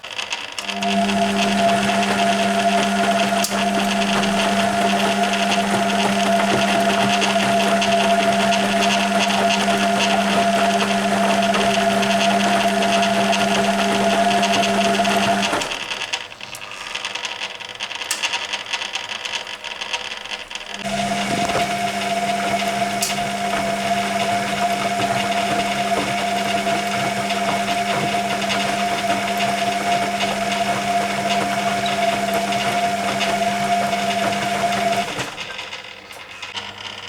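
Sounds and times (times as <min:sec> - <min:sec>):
washing machine motor humming: 0:00.0 - 0:16.3, 0:20.5 - 0:37.0.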